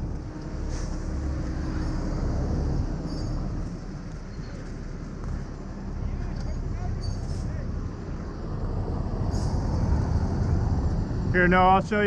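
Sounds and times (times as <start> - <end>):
low vehicle engine rumble: 0.0 - 12.0.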